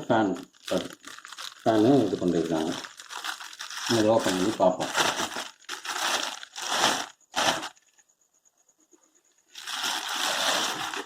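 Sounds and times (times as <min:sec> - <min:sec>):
packaging crinkling and tearing: 0:00.4 - 0:07.8, 0:09.6 - 0:11.0.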